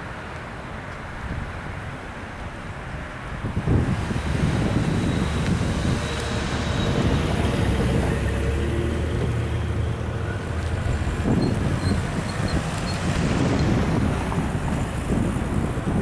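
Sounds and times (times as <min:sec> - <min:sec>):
freight train rolling past: 0:02.7 - 0:16.0.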